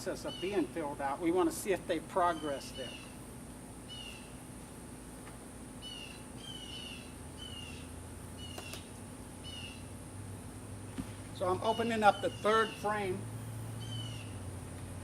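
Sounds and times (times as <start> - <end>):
honeybees humming: 0.0 - 15.0.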